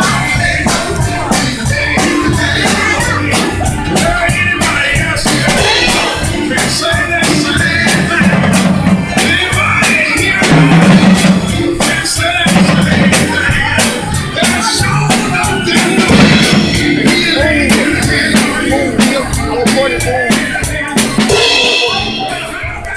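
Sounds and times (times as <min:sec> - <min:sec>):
band music: 0:00.0 - 0:22.9
drum kit beat: 0:00.0 - 0:22.9.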